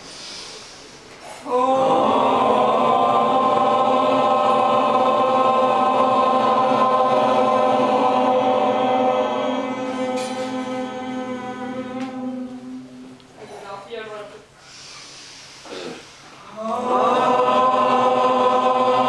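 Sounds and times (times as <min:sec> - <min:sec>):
group chanting om: 0:00.0 - 0:13.6, 0:15.6 - 0:19.0.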